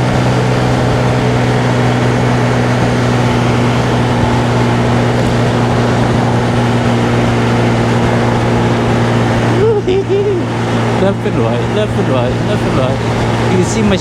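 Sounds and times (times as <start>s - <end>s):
small motorcycle engine running: 0.0s - 14.0s
wind and road noise: 0.0s - 14.0s.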